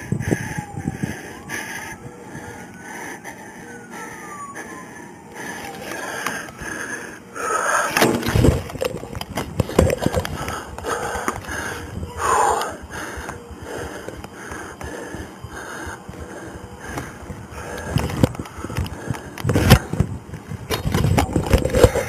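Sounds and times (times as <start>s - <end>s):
person breathing hard: 0.0s - 8.6s, 9.6s - 20.6s.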